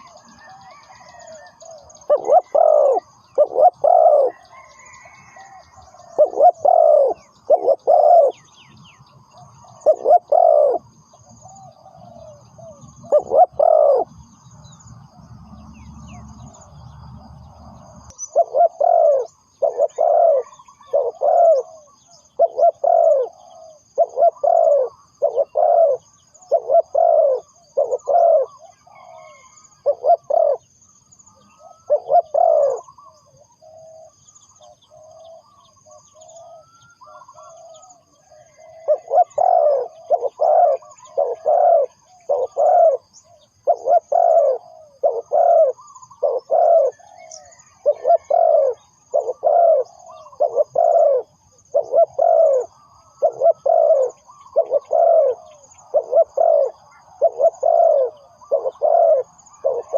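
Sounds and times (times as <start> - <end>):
dove cooing: 0.0 - 8.6, 9.3 - 14.8, 17.7 - 59.9.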